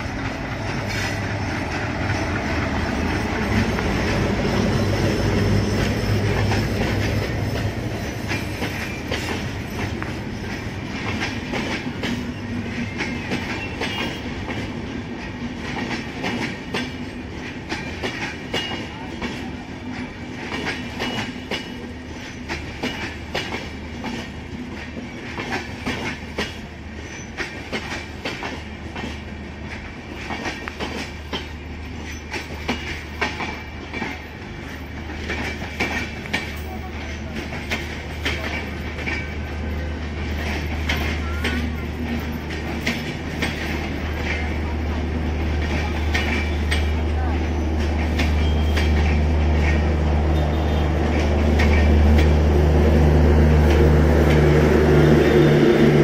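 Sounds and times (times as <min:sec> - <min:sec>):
train rumble: 0:00.0 - 0:56.0
train wheels clacking over rail joints: 0:00.0 - 0:56.0.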